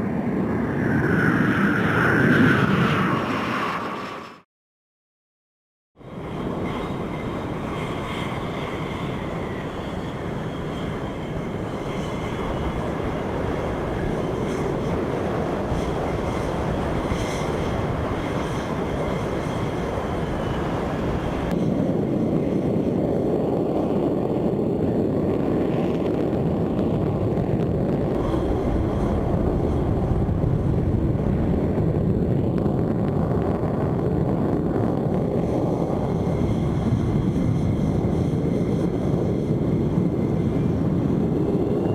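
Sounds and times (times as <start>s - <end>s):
jet engine roar: 0.0s - 4.5s, 6.0s - 41.9s.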